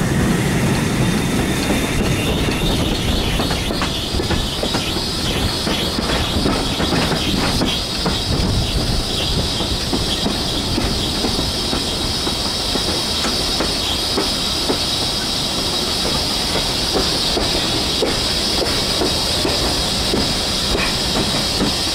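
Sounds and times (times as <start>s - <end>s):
steam hiss: 0.0s - 21.9s
train wheels rumbling: 0.0s - 21.9s
wheels clicking over rails: 1.5s - 15.0s, 16.0s - 21.9s.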